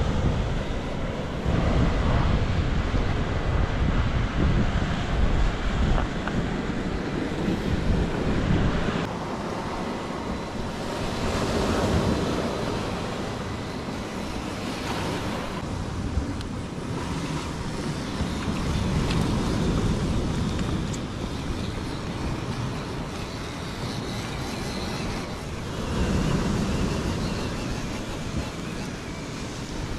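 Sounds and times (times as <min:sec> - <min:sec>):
wind buffeting microphone: 0:00.0 - 0:29.9
waves washing against rocky shore: 0:04.9 - 0:29.9.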